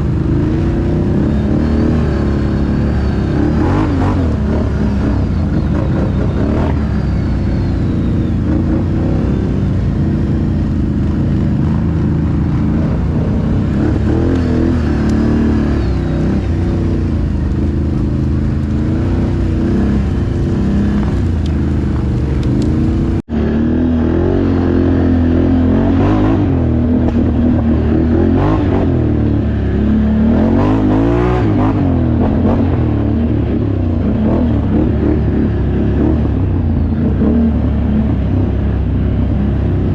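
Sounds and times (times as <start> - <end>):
atv engines revving: 0.0 - 39.9.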